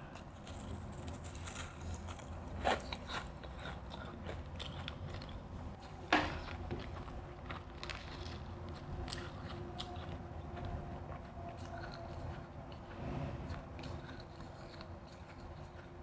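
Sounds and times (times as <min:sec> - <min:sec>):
crushed ice being chewed: 0:00.0 - 0:16.0.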